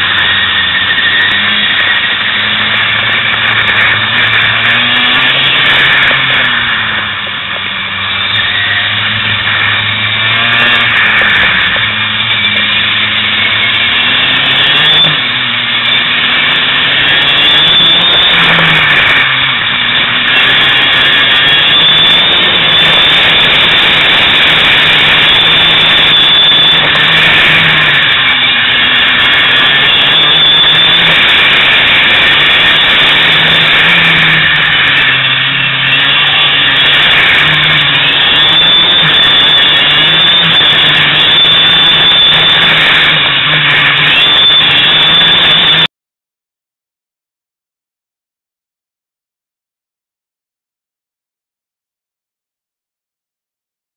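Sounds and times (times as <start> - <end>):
racing kart engine revving: 0.0 - 45.9.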